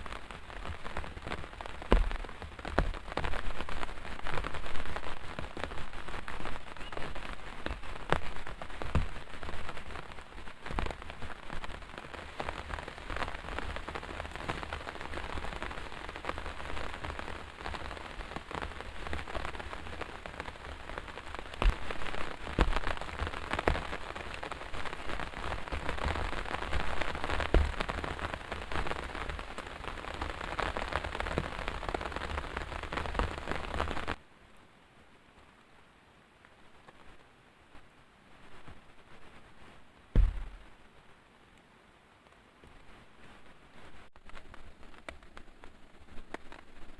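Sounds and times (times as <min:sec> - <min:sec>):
raindrops striking surface: 0:00.0 - 0:34.2, 0:35.2 - 0:41.1, 0:42.2 - 0:46.9
heavy rain falling: 0:00.0 - 0:46.9.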